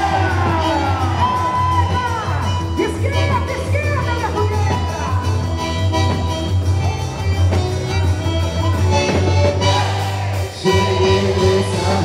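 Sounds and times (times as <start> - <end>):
instrumental folk dance music: 0.0 - 12.0.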